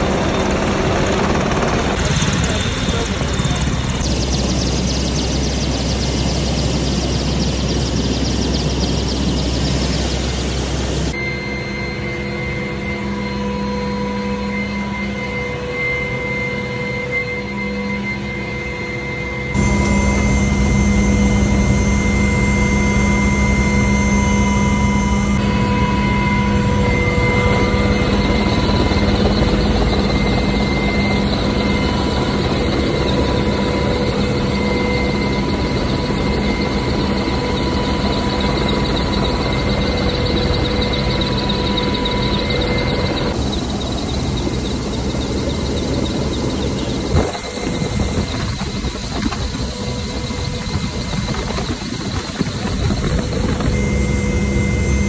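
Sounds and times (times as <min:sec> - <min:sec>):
helicopter engine and rotor noise: 0:00.0 - 0:55.0
steady whining tones: 0:00.0 - 0:55.0.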